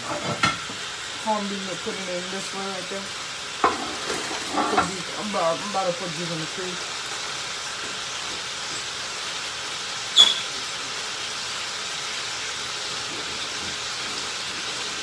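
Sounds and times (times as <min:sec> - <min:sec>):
vegetables sizzling in frying pan: 0:00.0 - 0:15.0.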